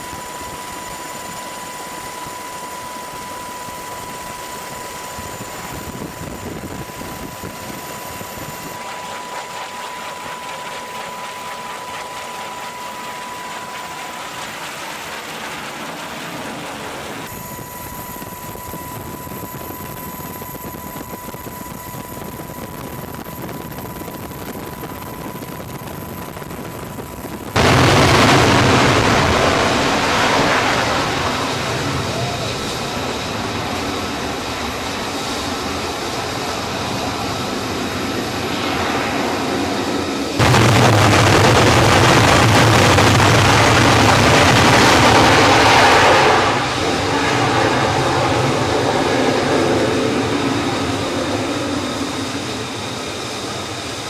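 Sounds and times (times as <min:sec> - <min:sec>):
jet engine roaring at full power: 0:00.0 - 0:54.0
jet engine whine: 0:00.0 - 0:54.0.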